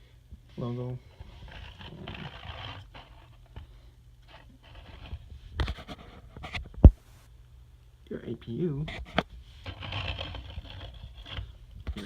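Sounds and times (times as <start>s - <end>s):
soft scraping rustle: 0.5s - 7.3s, 8.8s - 12.0s.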